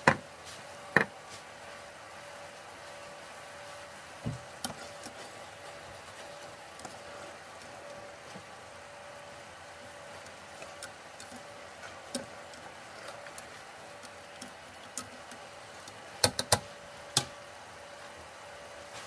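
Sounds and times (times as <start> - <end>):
induction cooktop hum: 0.0 - 19.0.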